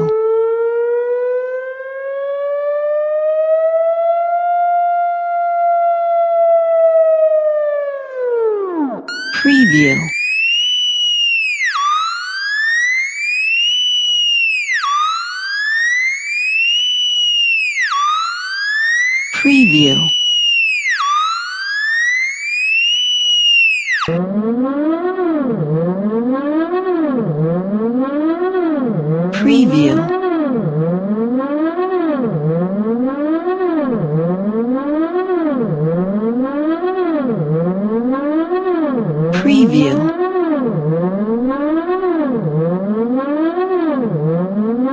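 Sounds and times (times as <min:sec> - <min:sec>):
synthesized alarm siren: 0:00.0 - 0:44.9.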